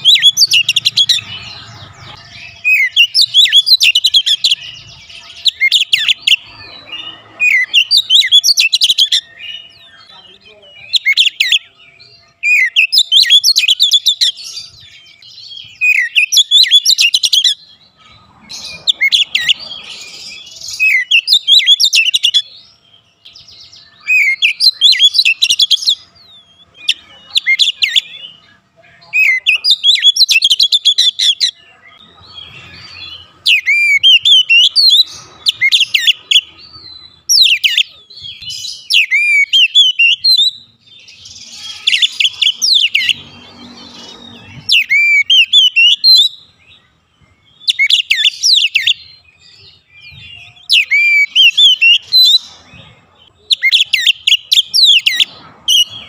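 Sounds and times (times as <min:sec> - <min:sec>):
bird singing whistles and chatter: 0:00.0 - 0:56.0.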